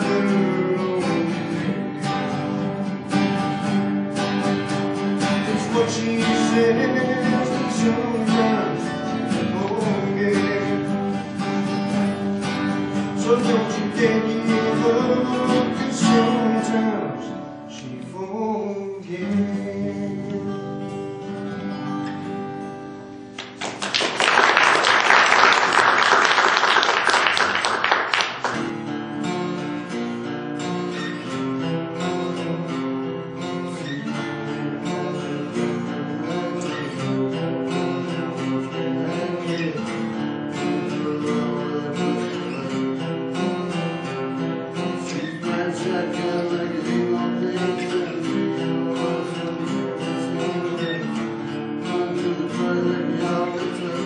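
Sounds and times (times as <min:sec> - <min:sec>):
acoustic guitars fast strumming: 0:00.0 - 0:17.8, 0:18.8 - 0:54.0
acoustic guitars picked melody: 0:00.0 - 0:54.0.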